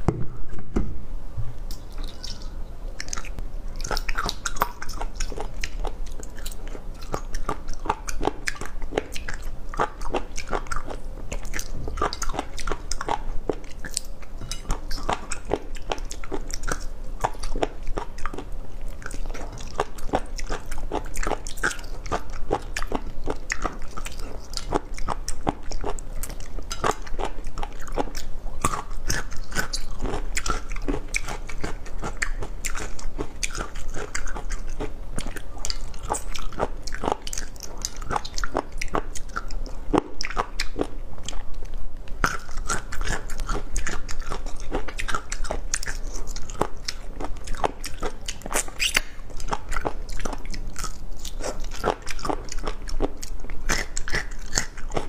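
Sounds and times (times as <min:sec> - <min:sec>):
person chewing crunchy food: 0:03.0 - 0:55.0.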